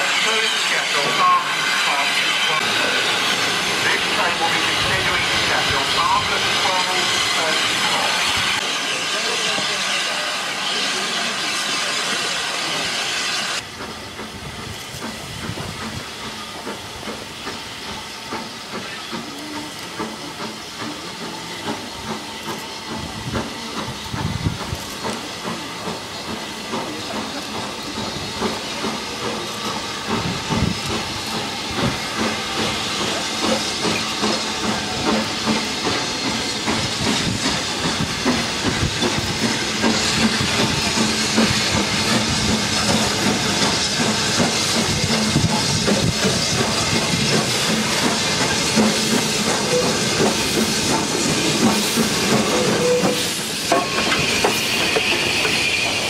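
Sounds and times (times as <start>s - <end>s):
steam locomotive chuffing: 0.0s - 56.0s
steam locomotive hissing: 0.0s - 56.0s.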